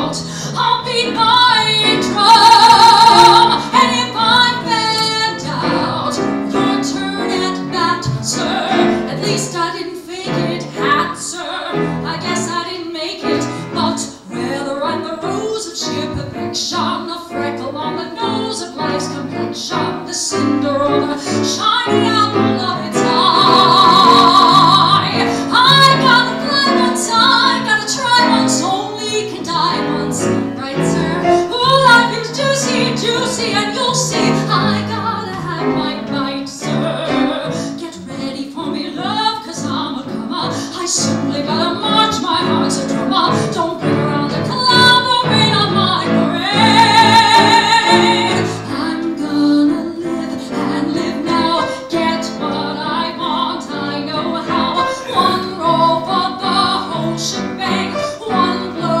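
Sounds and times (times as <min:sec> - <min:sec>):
piano accompaniment: 0:00.0 - 0:59.0.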